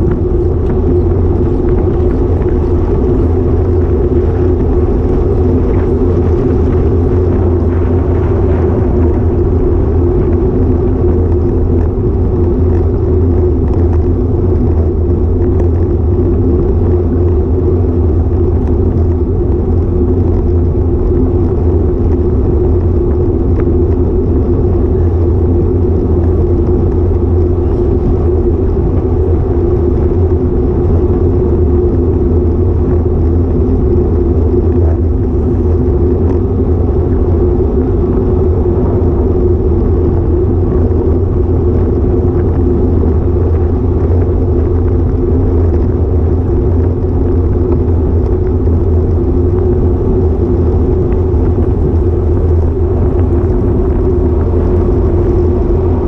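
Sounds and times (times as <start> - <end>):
road vibration rumble: 0.0 - 56.0
wind buffeting microphone: 0.0 - 56.0.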